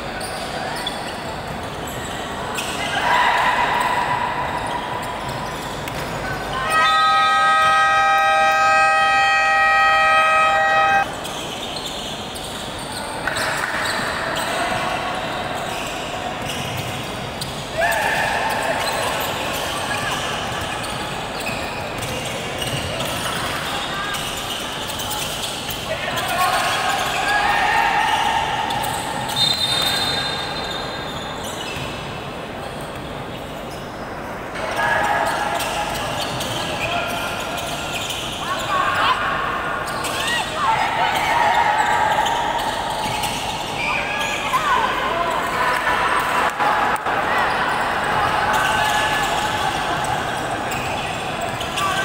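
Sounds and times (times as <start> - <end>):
sneakers squeaking: 0.0 - 52.0.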